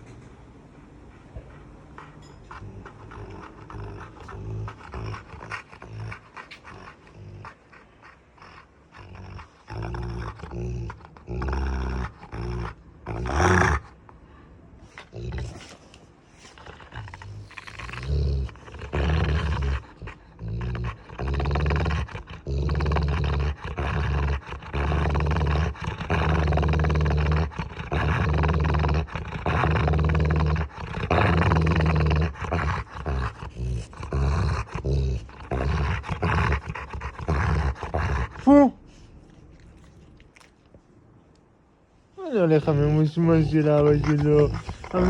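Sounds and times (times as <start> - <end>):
dog growling: 1.4 - 14.0, 14.9 - 39.0, 42.2 - 45.0.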